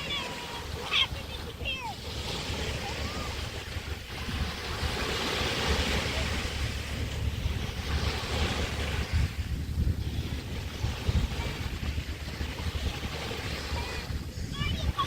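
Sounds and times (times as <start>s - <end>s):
small waves washing on beach: 0.0s - 15.0s
wind buffeting microphone: 0.0s - 15.0s.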